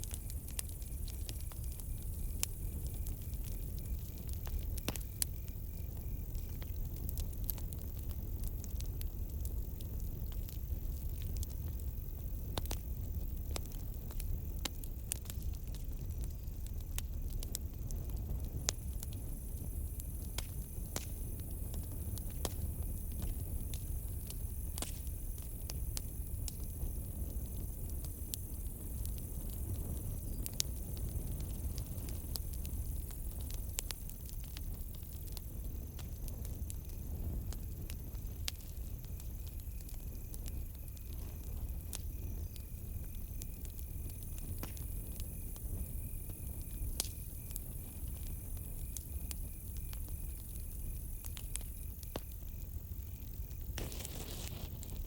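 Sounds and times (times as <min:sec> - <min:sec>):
campfire crackling and popping: 0:00.0 - 0:55.0
cricket trill: 0:00.0 - 0:55.0.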